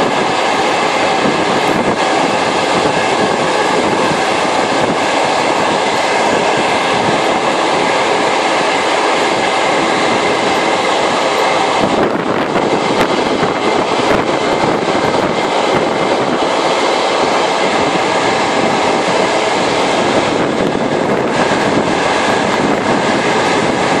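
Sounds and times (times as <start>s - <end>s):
faint steady whine: 0.0s - 24.0s
train wheels rumbling and rattling: 0.0s - 24.0s.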